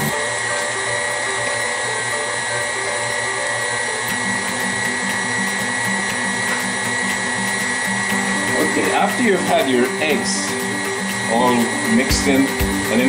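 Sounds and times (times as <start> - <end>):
stand mixer motor whirring: 0.0 - 13.0.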